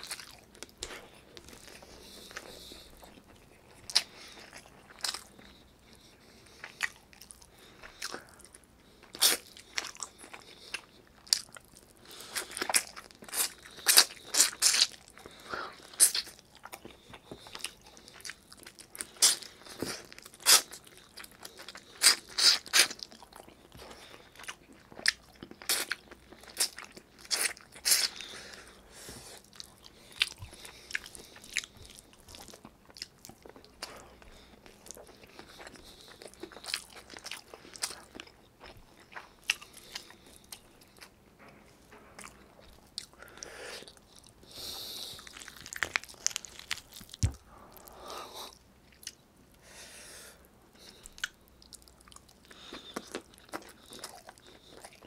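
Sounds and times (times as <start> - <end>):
wet chewing and lip-smacking: 0.0 - 41.2, 42.2 - 49.2, 50.8 - 55.0.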